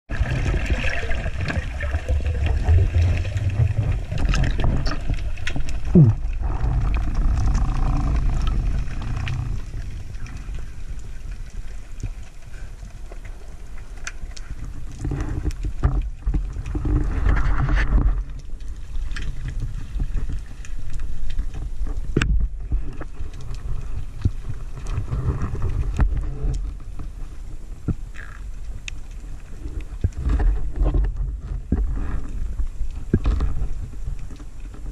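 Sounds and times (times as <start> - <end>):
low rumble of moving water: 0.1 - 34.9.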